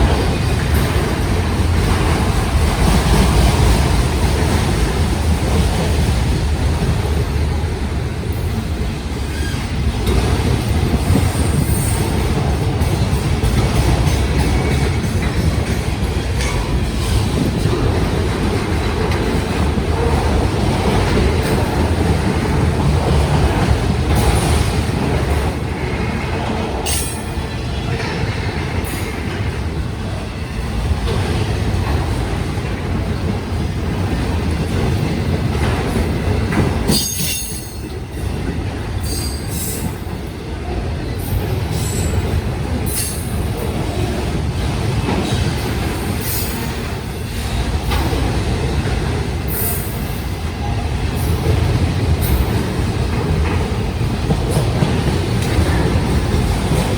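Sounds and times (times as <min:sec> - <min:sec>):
steel wheels rumbling on rails: 0:00.0 - 0:56.9.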